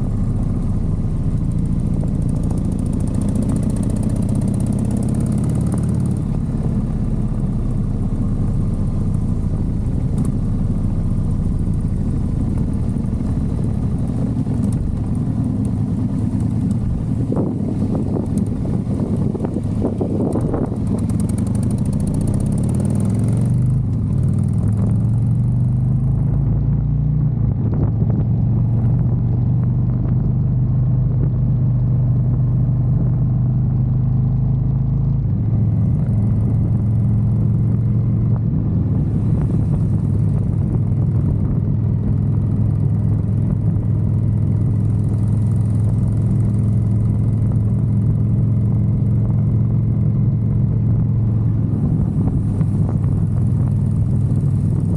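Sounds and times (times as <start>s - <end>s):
motorcycle engine running: 0.0s - 54.9s
wind noise on microphone: 4.4s - 33.4s, 35.3s - 54.9s.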